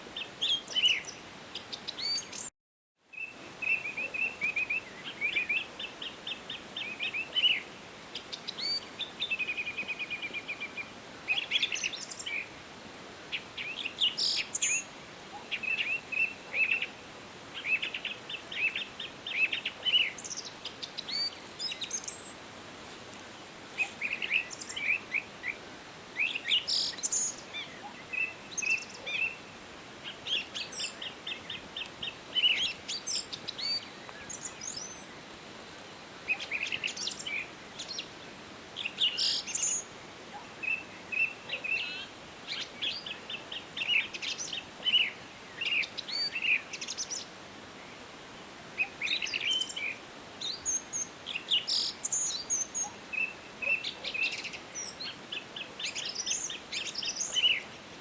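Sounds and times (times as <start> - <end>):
songbirds singing: 0.0 - 2.5, 3.1 - 58.0
faint forest ambience hiss: 0.0 - 58.0.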